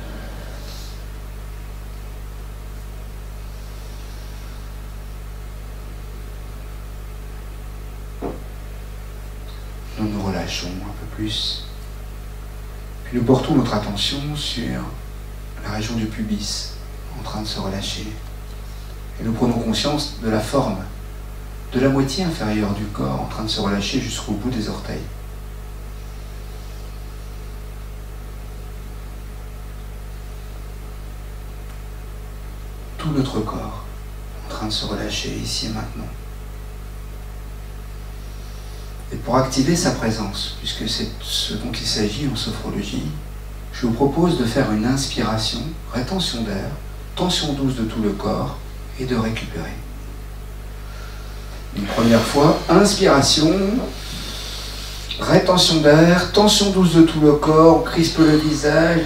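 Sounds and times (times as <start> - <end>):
low electrical hum: 0.0 - 59.0
microphone hiss: 0.0 - 59.0.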